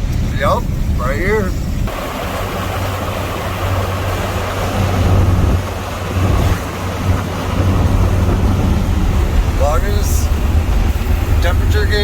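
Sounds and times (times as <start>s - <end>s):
road noise: 0.0s - 12.0s
truck engine hum: 0.0s - 12.0s
wind noise: 0.0s - 12.0s.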